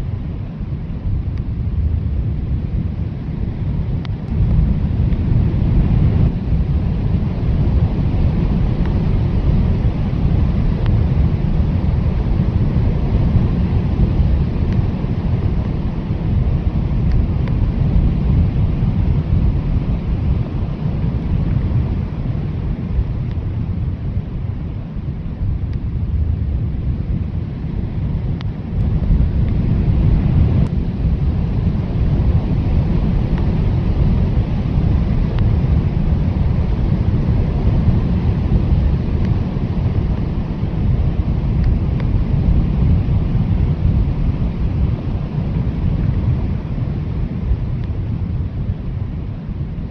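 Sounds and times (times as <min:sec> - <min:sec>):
blizzard wind blowing: 0:00.0 - 0:49.9.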